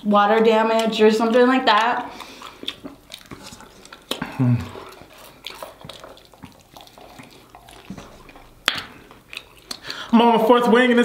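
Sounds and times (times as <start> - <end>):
chewing and wet mouth clicks: 0.4 - 10.1.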